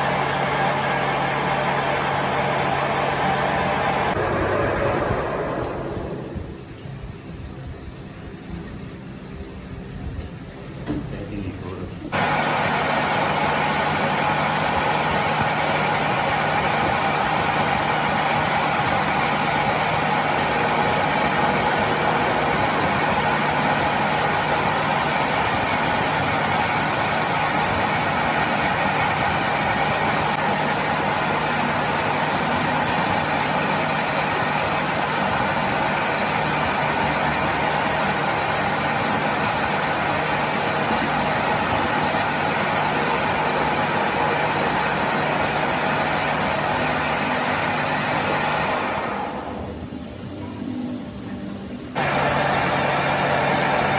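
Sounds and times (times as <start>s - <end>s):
machine humming with whine: 0.0s - 7.5s, 12.1s - 50.9s, 51.6s - 53.9s.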